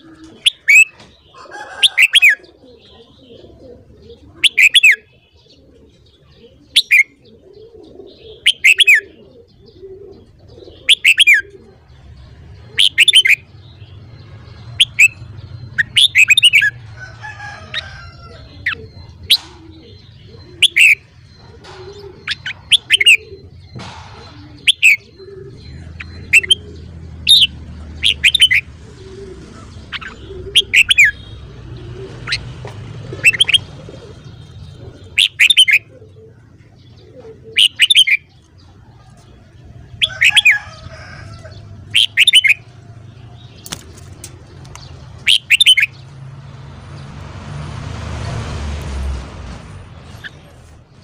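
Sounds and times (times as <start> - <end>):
bulbul calling: 0.0 - 46.2.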